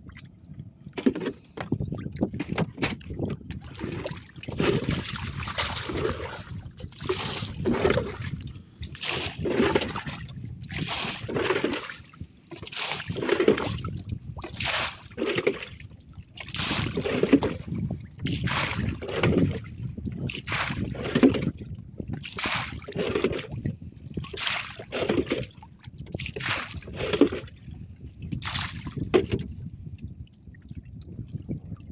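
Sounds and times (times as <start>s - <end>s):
water splashing: 1.0s - 21.5s, 22.2s - 23.6s, 24.3s - 27.6s, 28.3s - 29.5s.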